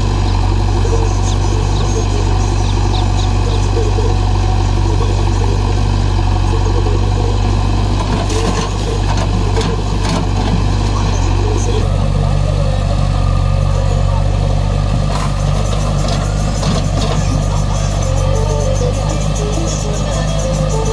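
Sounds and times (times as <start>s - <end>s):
diesel engines running at low revs: 0.0s - 20.9s.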